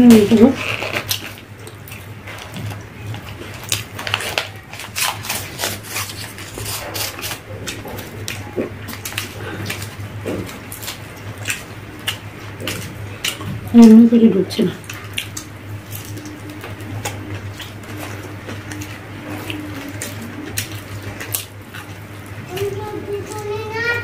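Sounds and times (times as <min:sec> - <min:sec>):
low hum: 0:00.0 - 0:24.0
chewing and lip smacking: 0:00.6 - 0:23.5.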